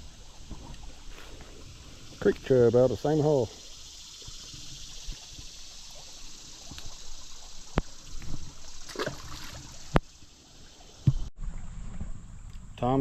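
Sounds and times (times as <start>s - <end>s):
creek water trickling: 0.0s - 13.0s
insects buzzing: 0.0s - 13.0s.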